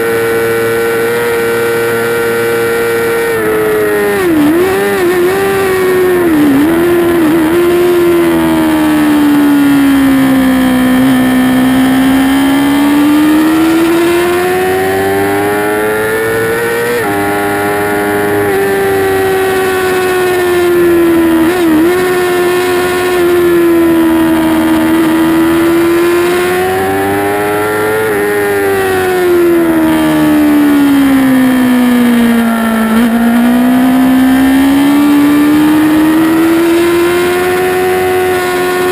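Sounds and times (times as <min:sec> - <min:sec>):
motorcycle engine at race pace: 0:00.0 - 0:38.9.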